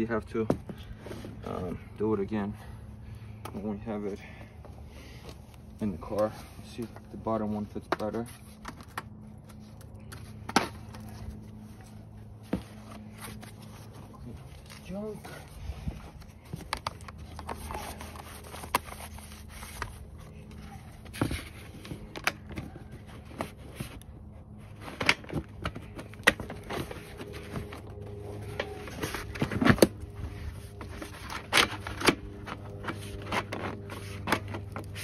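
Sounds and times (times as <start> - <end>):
steady low hum: 0.0 - 35.0
scrapes and rubs of handling: 5.1 - 35.0.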